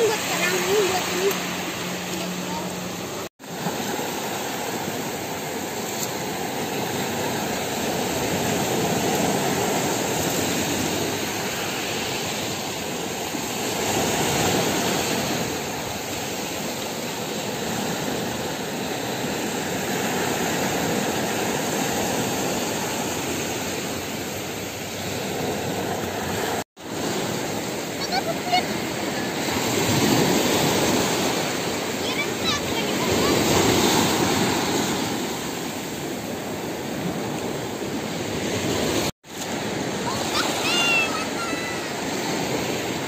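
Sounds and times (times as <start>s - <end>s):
waves washing up pebble beach: 0.0s - 2.9s, 3.5s - 43.0s.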